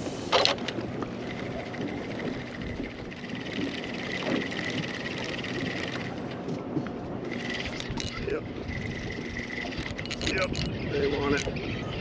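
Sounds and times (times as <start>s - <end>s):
water noise: 0.0s - 12.0s
wind: 0.0s - 12.0s
fishing reel whirring: 0.4s - 6.2s, 7.2s - 11.7s.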